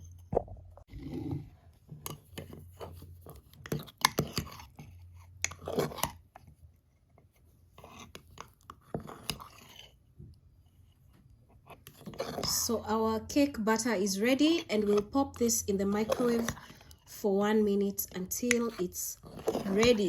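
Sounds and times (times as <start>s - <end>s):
utensil stirring batter in a mug: 1.4s - 20.0s.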